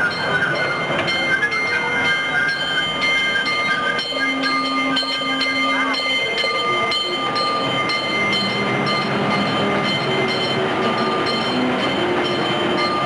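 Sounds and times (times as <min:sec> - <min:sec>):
train rumbling along track: 0:00.0 - 0:13.0.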